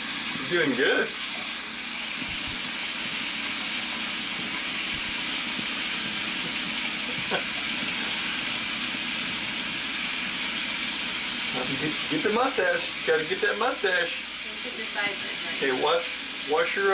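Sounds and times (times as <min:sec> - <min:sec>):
water running from sink tap: 0:00.0 - 0:16.9.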